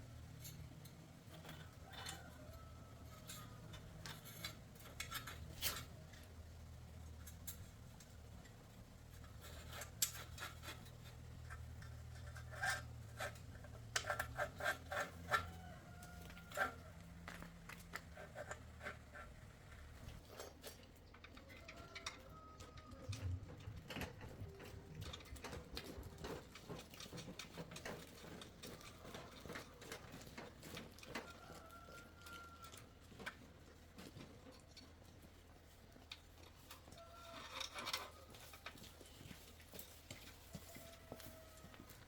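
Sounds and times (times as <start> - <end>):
tools and metal clicking and scraping: 0.0 - 42.0.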